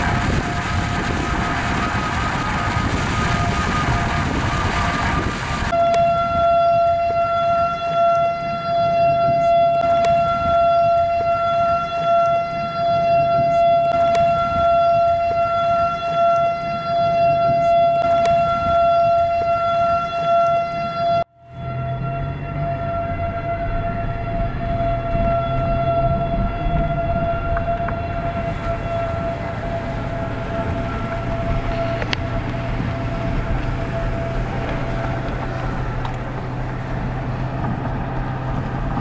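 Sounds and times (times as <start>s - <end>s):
vehicle road noise: 0.0s - 39.0s
warning siren steady tone: 0.0s - 39.0s.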